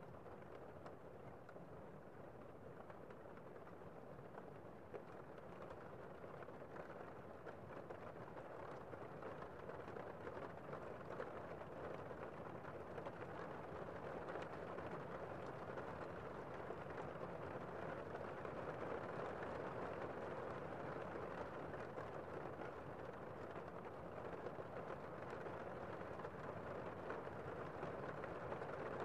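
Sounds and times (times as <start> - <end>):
muffled heavy rain: 0.0 - 29.0.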